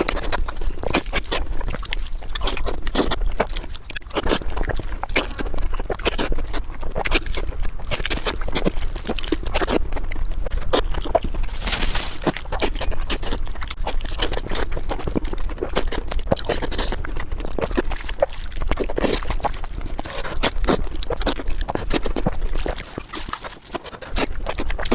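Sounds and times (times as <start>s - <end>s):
chewing and lip-smacking: 0.0s - 24.9s
steady low hum: 0.0s - 24.9s.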